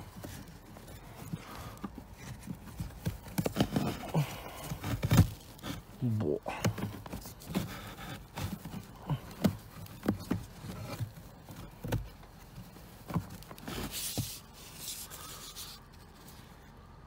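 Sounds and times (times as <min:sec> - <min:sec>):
scraping rustle: 0:00.0 - 0:17.0.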